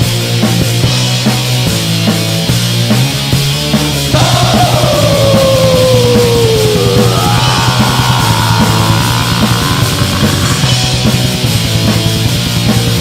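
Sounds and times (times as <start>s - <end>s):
distorted guitars: 0.0s - 13.0s
fast dense drumming: 0.5s - 13.0s.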